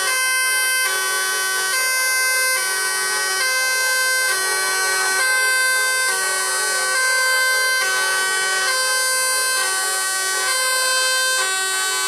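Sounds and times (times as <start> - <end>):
bus horn playing a tune: 0.0 - 12.0.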